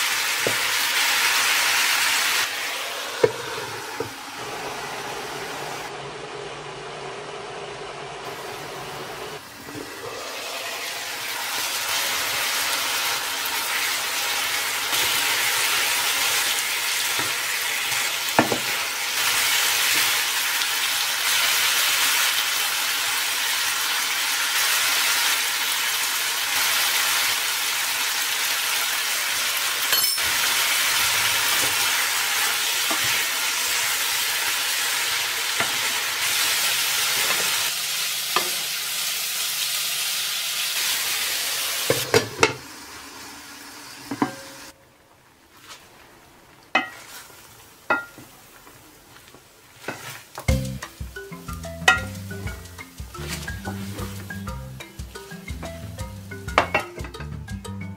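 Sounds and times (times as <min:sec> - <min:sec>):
meat sizzling in a pan: 0:00.0 - 0:05.7, 0:09.4 - 0:44.7, 0:49.7 - 0:56.7.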